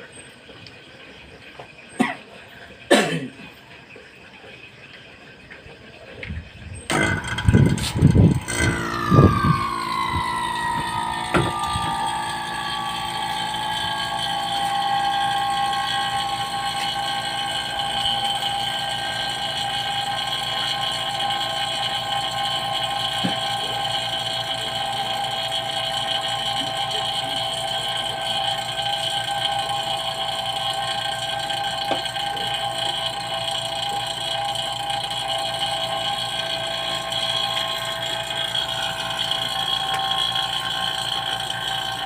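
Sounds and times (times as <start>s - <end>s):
high machine whine: 0.0s - 42.0s.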